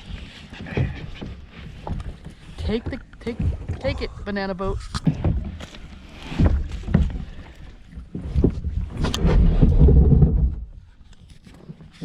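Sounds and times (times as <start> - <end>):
kayak hull knocks and scrapes: 0.0 - 12.0.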